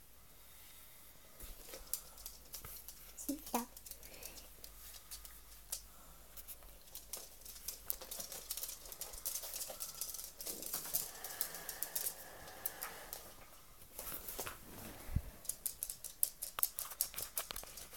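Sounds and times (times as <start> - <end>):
light clicks and taps on floor: 1.4 - 17.9.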